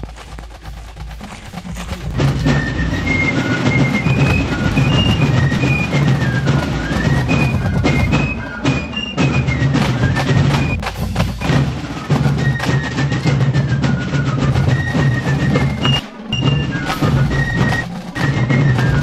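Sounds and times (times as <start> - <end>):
fife melody: 0.0 - 19.0
snare and bass drum: 0.0 - 19.0.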